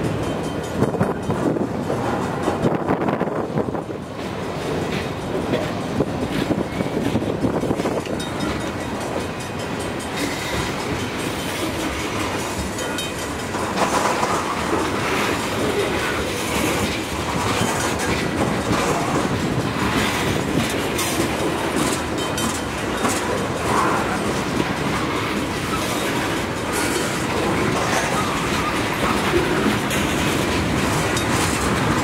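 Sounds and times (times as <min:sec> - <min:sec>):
freight train wheels clattering: 0:00.0 - 0:32.0.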